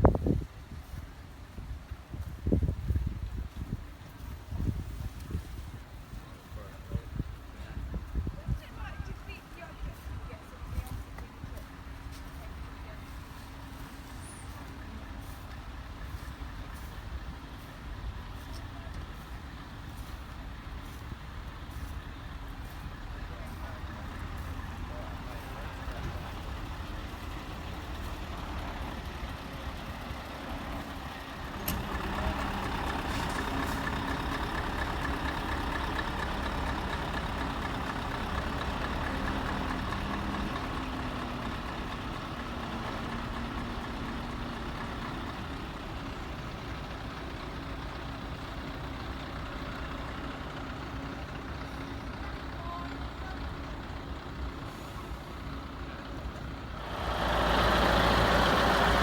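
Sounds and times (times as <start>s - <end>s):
heavy truck engines idling: 0.0s - 59.0s.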